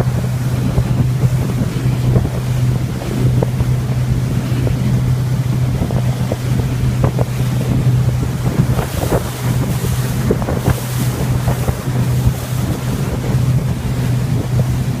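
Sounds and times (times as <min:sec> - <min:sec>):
motorboat engine humming: 0:00.0 - 0:15.0
water slapping against hull: 0:00.0 - 0:15.0
wind buffeting microphone: 0:00.0 - 0:15.0.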